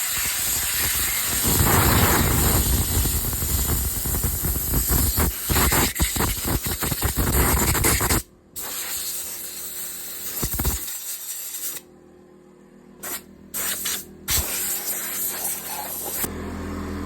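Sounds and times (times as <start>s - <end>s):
compressed air hissing: 0.0s - 11.8s, 13.0s - 16.3s.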